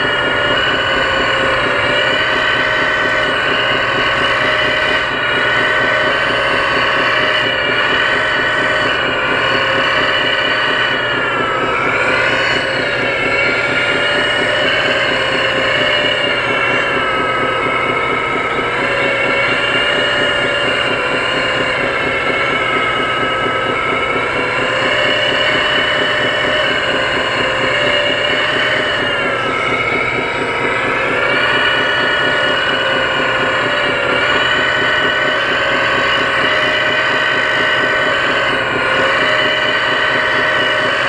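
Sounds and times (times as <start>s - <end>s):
hydraulic pump whining: 0.0s - 41.0s
simulated diesel engine throb: 0.0s - 41.0s.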